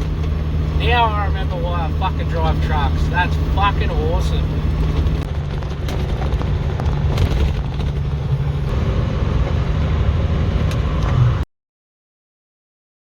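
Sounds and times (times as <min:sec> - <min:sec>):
road noise: 0:00.0 - 0:11.5
truck engine rumble: 0:00.0 - 0:11.5.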